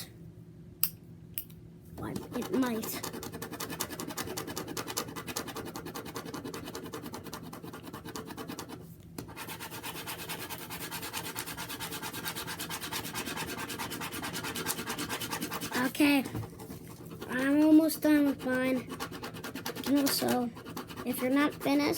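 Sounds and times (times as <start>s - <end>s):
pen scribbling on paper: 2.0s - 21.9s.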